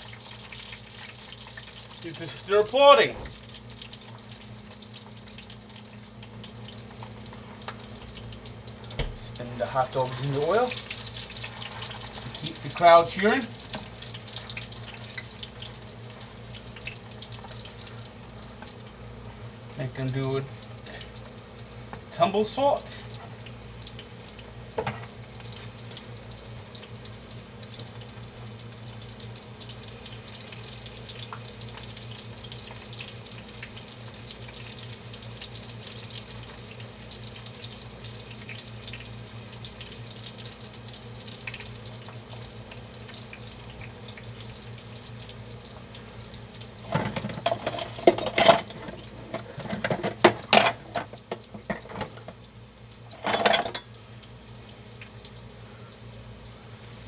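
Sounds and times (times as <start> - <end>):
food deep-frying in oil: 0.0 - 57.0.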